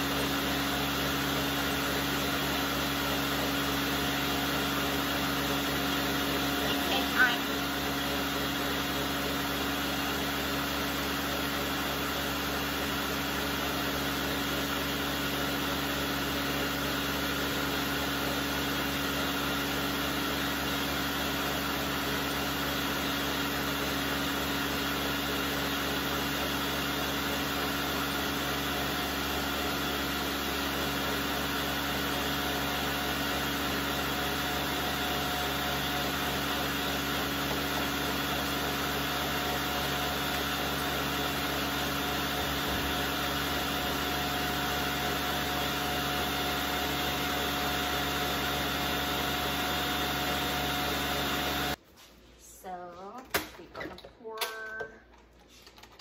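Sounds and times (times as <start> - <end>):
blender motor grinding: 0.0 - 51.8.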